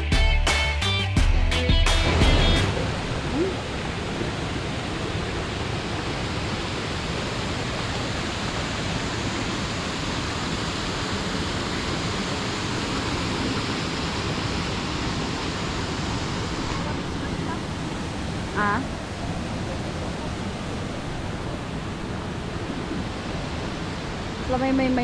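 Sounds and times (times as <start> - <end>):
waterfall pouring over rocks: 2.7 - 25.0.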